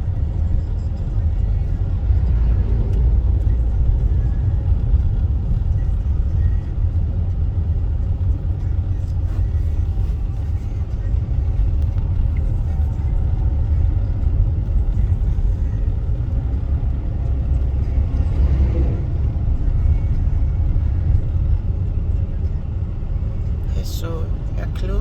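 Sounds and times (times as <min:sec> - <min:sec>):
road and engine noise in car: 0:00.0 - 0:25.0.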